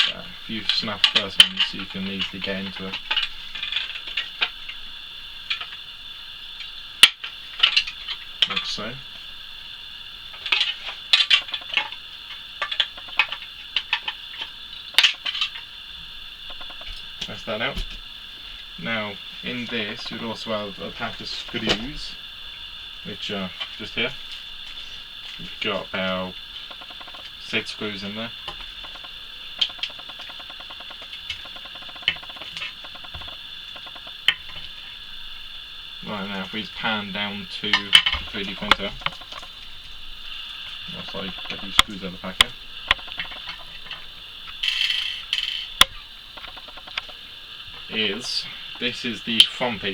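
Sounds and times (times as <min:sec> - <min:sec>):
steady high-pitched whine: 0:00.0 - 0:49.9.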